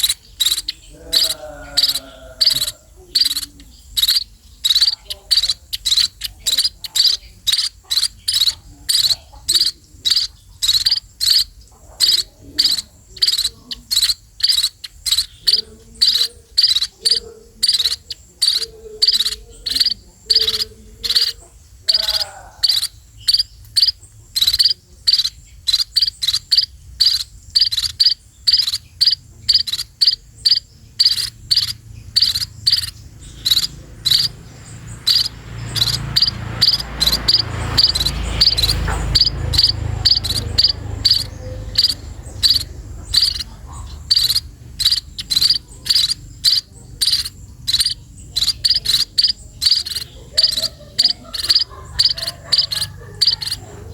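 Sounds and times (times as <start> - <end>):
cricket chirping: 0.0 - 53.9.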